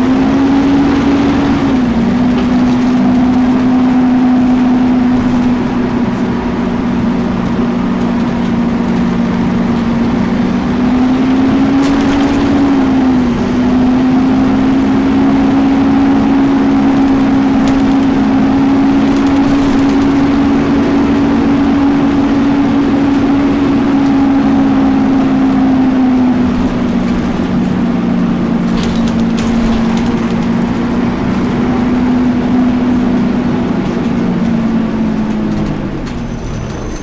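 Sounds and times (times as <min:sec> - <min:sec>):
engine cooling fan humming: 0:00.0 - 0:37.0.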